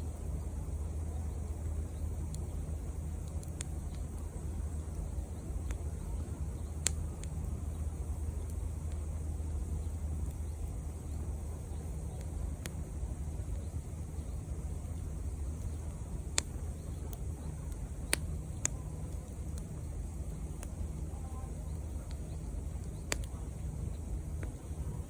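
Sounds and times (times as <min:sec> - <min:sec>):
campfire crackling and popping: 0:00.0 - 0:25.0
low fire rumble: 0:00.0 - 0:25.0.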